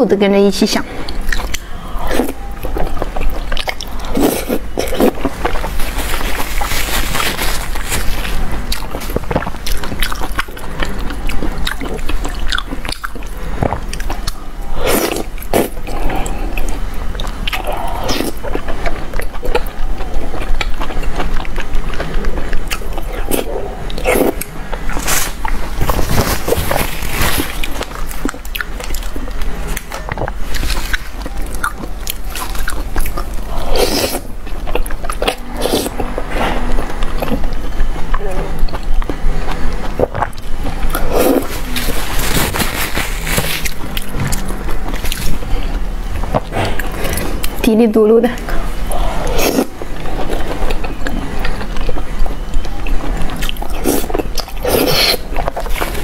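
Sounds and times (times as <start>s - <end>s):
wet chewing and slurping: 0.9s - 56.0s.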